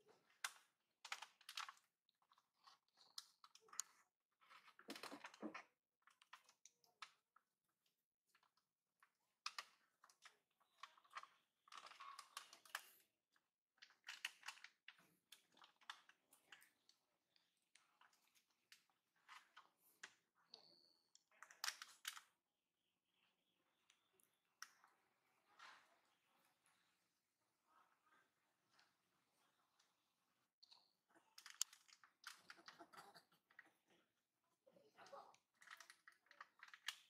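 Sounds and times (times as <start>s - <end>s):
faint clicking and rustling: 0.1s - 22.4s, 23.2s - 34.2s, 34.8s - 37.0s.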